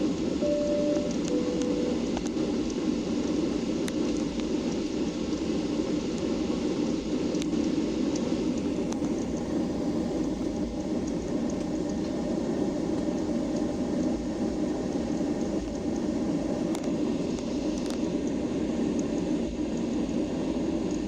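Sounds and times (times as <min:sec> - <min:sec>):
airplane cabin rumble and hiss: 0:00.0 - 0:21.0.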